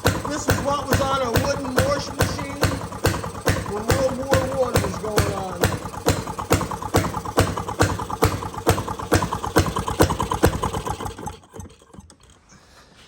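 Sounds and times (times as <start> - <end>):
single-cylinder engine running: 0.0 - 12.5.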